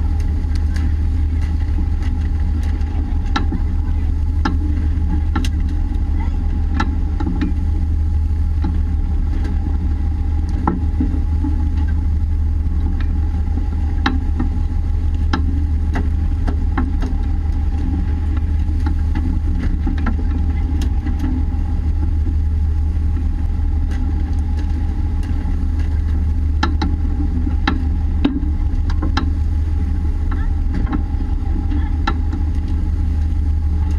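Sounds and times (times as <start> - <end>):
boat engine drone: 0.0 - 33.9
faint steady whine: 0.0 - 33.9.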